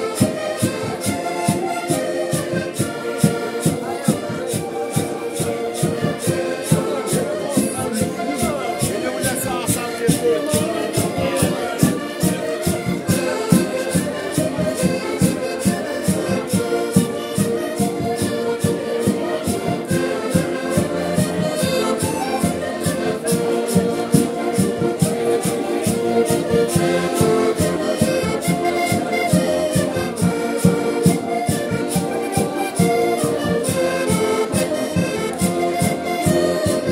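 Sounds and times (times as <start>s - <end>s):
button accordions playing: 0.0s - 36.9s
steady percussion beat: 0.0s - 36.9s.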